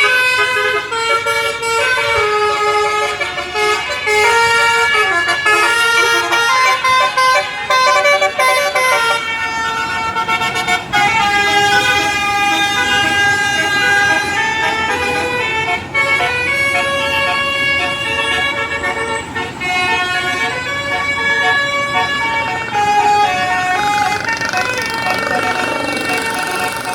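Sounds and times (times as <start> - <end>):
musical bus horn melody: 0.0 - 26.9.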